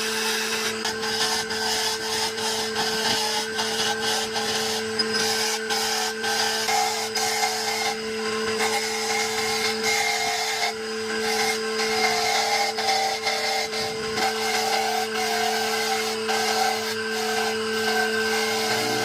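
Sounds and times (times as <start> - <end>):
power tool cutting wood: 0.0 - 19.0.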